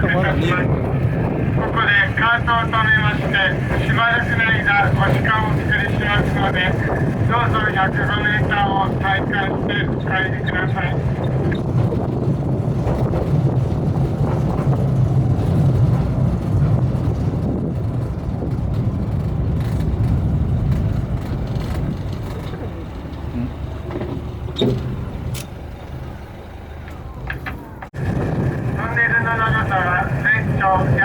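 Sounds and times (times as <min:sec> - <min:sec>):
engine low rumble: 0:00.0 - 0:31.0.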